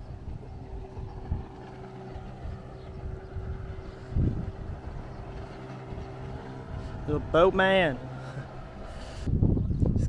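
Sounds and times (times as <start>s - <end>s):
outboard motor drone: 0.0s - 10.0s.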